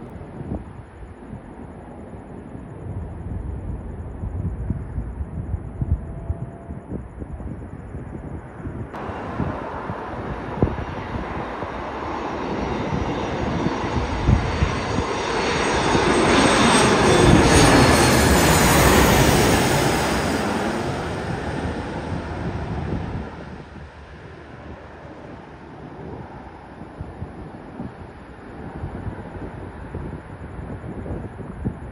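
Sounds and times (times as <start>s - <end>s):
jet passing low overhead: 0.0s - 31.9s.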